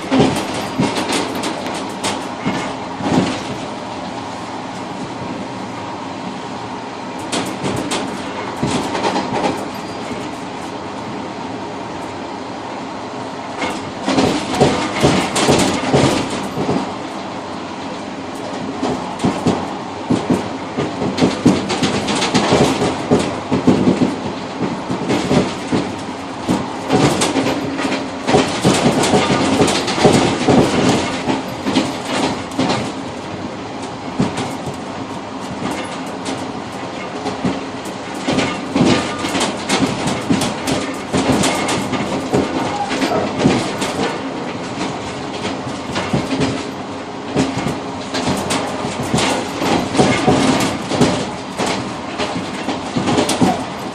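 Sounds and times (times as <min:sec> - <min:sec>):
train wheels clattering over rail joints: 0:00.0 - 0:05.6, 0:07.0 - 0:12.2, 0:13.5 - 0:53.9
train rumble: 0:00.0 - 0:53.9.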